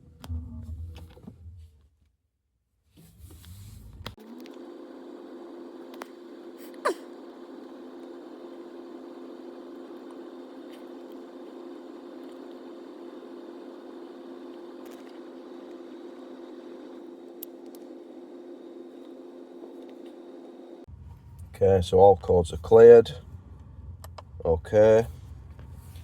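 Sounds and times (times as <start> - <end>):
steady mid-pitched hum: 0.0 - 1.7, 3.1 - 26.0.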